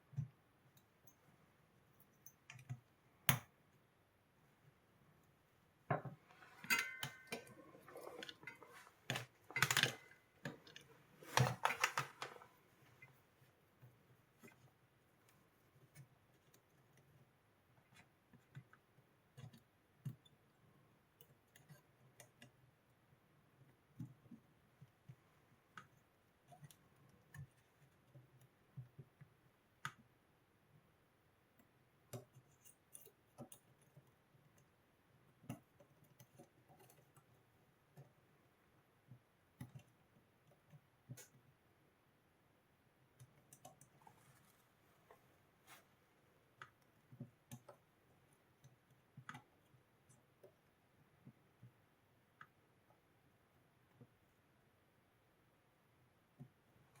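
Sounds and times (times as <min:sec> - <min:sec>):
faint clicks and light knocks: 0:00.0 - 0:03.9, 0:04.7 - 0:41.8, 0:42.8 - 0:54.7.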